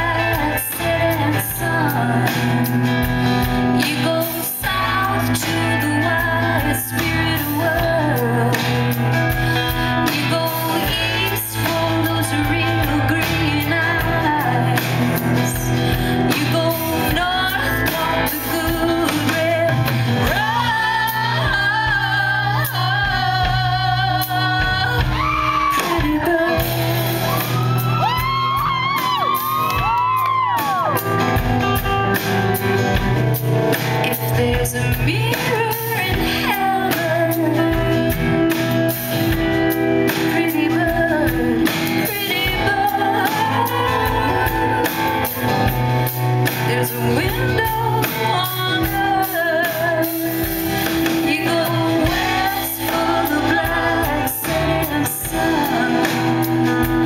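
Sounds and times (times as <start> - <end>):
woman singing into a microphone: 0.0 - 31.7, 32.8 - 57.0
drums and cymbals: 0.0 - 57.0
guitar: 0.0 - 57.0.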